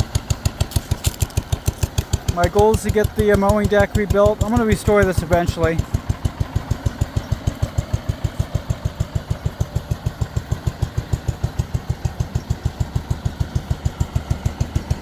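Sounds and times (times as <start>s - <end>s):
garden tractor engine idling: 0.0s - 15.0s.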